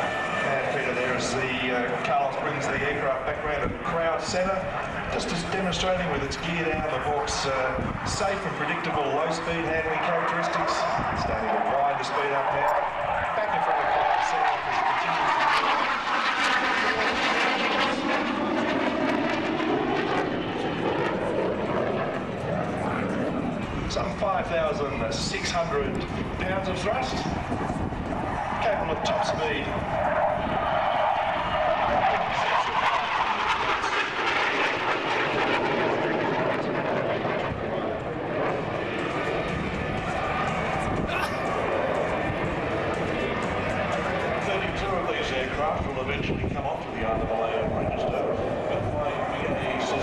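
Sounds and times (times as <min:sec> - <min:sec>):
jet engine roaring past: 0:00.0 - 0:50.0.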